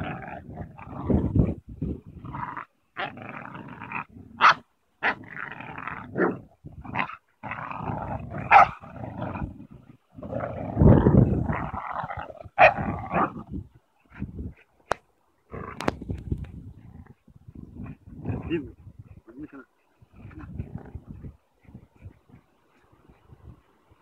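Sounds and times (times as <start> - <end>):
dogs growling in play: 0.0 - 14.6, 15.5 - 19.2, 19.9 - 23.4.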